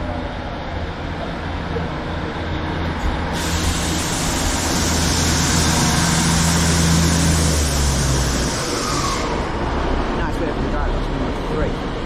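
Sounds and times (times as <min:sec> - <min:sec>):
diesel engine drone: 0:00.0 - 0:12.0
loud hiss of train noise: 0:00.2 - 0:12.0.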